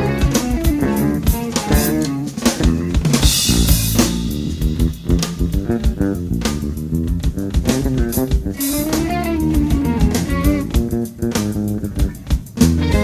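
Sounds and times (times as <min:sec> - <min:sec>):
drum kit: 0:00.0 - 0:13.0
electric bass line: 0:00.0 - 0:13.0.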